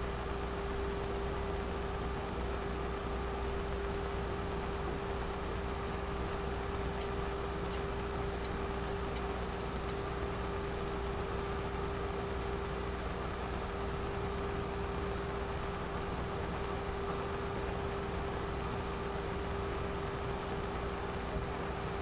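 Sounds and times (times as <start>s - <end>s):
aircraft cockpit airflow and engine noise: 0.0s - 22.0s
constant hum: 0.0s - 22.0s.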